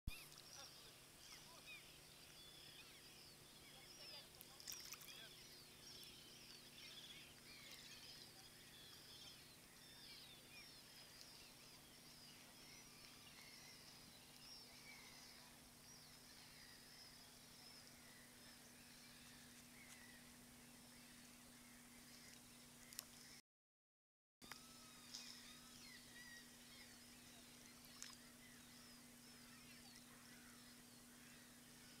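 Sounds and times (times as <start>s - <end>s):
birds chirping: 0.1s - 23.4s, 24.4s - 32.0s
quiet steady hum: 0.1s - 23.4s, 24.4s - 32.0s.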